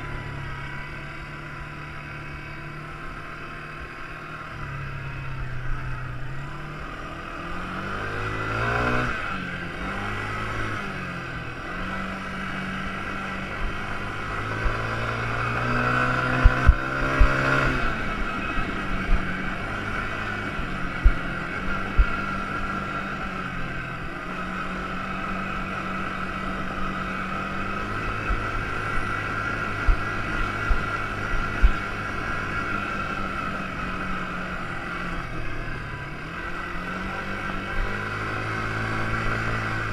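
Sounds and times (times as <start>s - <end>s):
high whine: 0.0s - 39.9s
quad bike engine running: 0.0s - 39.9s.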